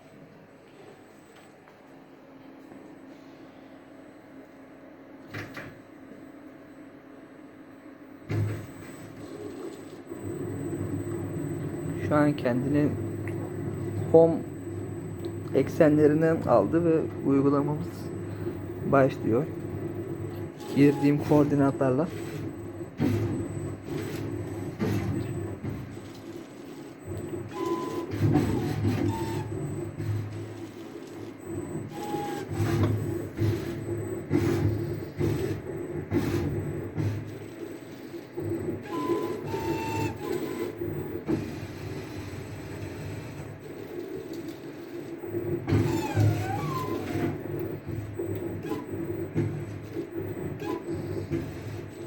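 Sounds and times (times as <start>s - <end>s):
machine motors whining: 8.3s - 52.0s.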